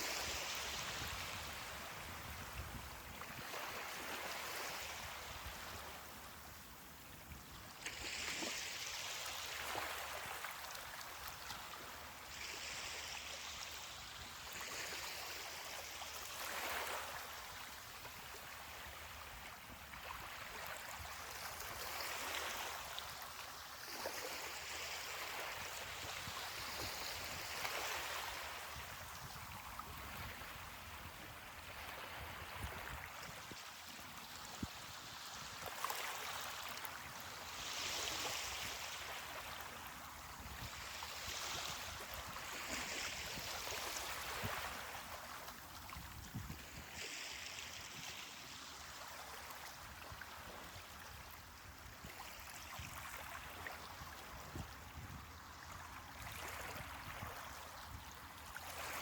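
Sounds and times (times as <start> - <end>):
ocean waves washing onto beach: 0.0 - 51.6.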